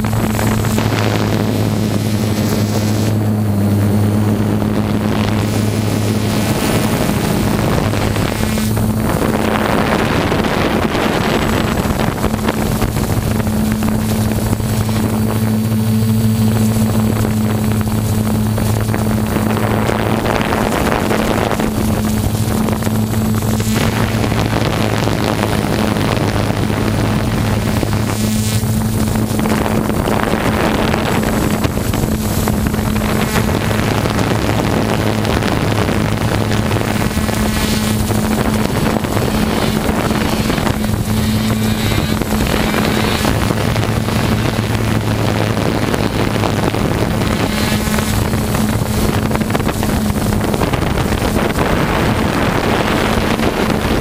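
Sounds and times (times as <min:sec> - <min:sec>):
rushing noise: 0:00.0 - 0:54.0
snowmobile engine idling: 0:00.0 - 0:54.0.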